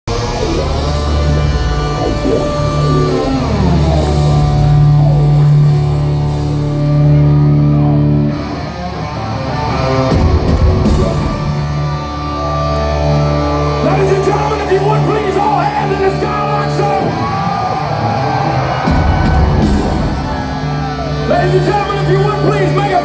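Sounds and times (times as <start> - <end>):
distorted electric guitars: 0.1 - 23.0
rock drums: 0.1 - 23.0.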